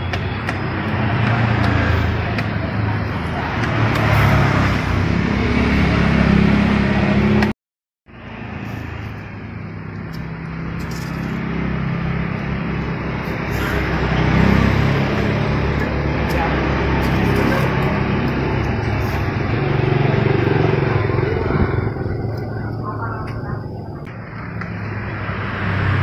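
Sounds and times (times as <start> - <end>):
car engines passing: 0.0 - 7.5, 8.1 - 26.0
motorbike engines passing: 0.0 - 7.5, 8.1 - 26.0.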